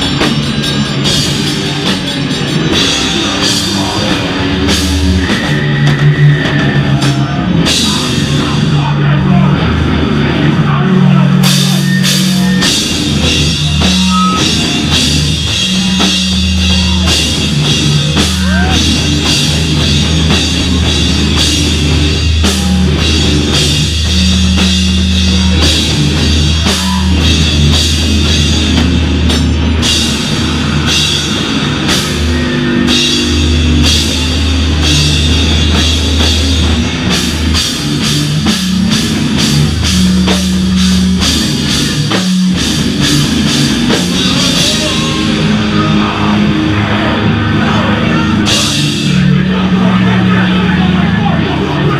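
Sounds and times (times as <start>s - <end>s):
hardcore band playing live: 0.0s - 51.9s.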